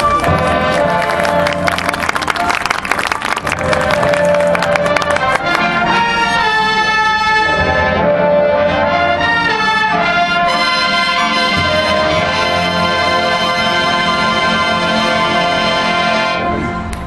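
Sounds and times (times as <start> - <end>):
brass section playing chords: 0.0 - 17.0.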